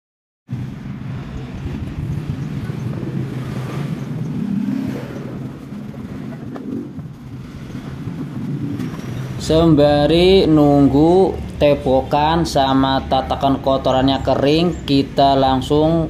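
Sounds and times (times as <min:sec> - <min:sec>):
vehicle engine rumbling: 0:00.5 - 0:16.0.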